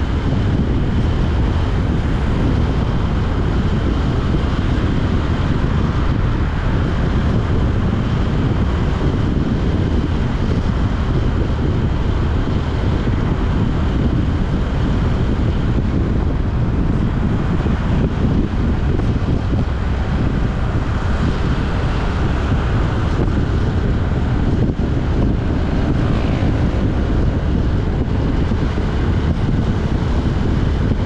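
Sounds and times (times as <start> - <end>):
vehicle road noise: 0.0 - 31.0
wind rumble on microphone: 0.0 - 31.0.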